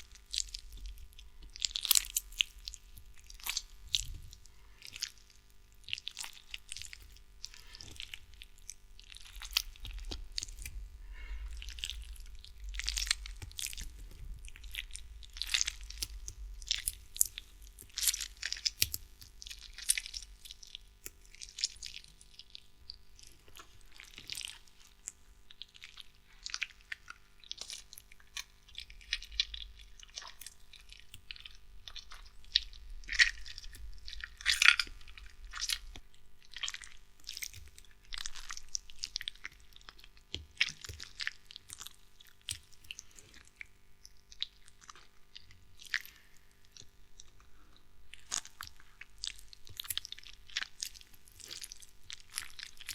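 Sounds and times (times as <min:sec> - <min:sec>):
wet squelching and crackling: 0:00.0 - 0:52.9.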